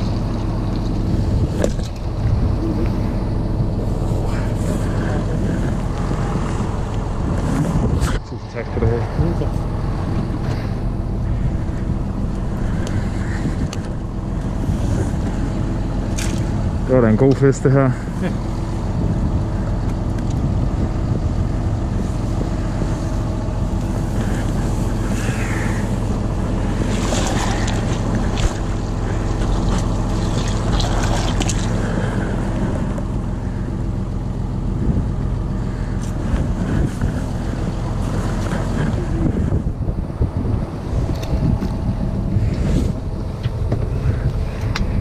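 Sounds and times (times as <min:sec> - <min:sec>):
boat engine humming: 0:00.0 - 0:45.0
wind buffeting microphone: 0:00.0 - 0:45.0.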